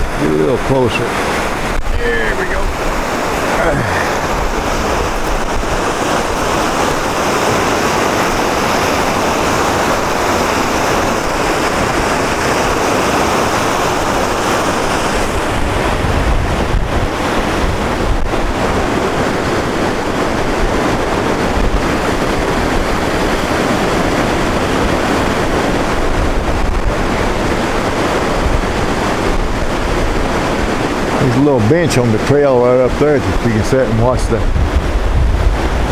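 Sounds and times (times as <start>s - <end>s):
water rushing over rocks: 0.0s - 35.9s
wind buffeting microphone: 0.0s - 35.9s.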